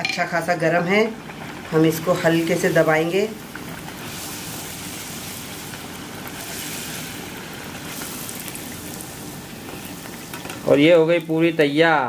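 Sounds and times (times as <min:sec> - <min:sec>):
dough sizzling in hot oil: 0:00.3 - 0:12.0.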